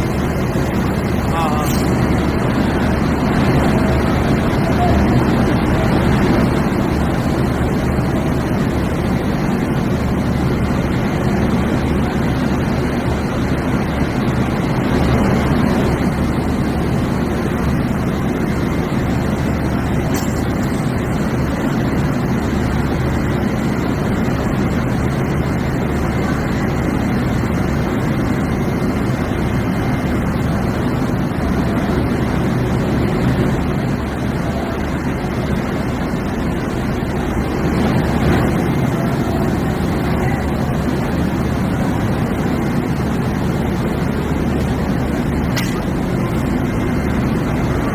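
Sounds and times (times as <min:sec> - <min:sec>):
locomotive low drone: 0:00.0 - 0:47.9.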